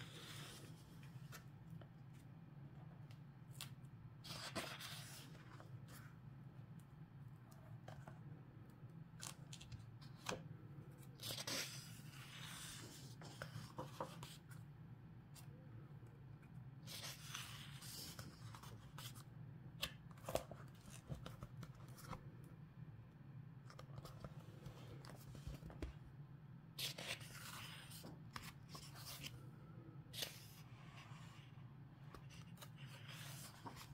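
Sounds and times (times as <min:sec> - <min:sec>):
book pages turning: 0:00.0 - 0:06.8, 0:07.5 - 0:08.3, 0:09.0 - 0:14.7, 0:16.8 - 0:22.5, 0:23.6 - 0:26.1, 0:26.7 - 0:29.4, 0:30.1 - 0:33.9
faint steady hum: 0:00.0 - 0:33.9.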